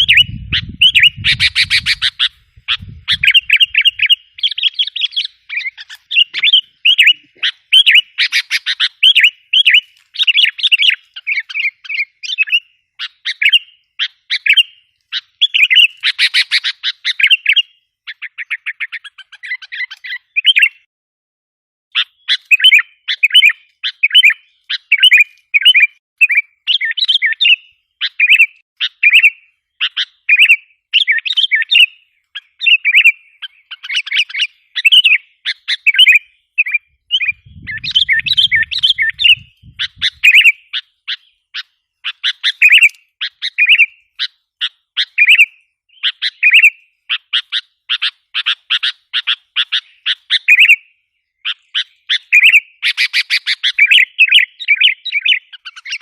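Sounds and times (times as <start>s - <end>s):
bulbul calling: 0.0s - 20.9s, 21.9s - 56.0s.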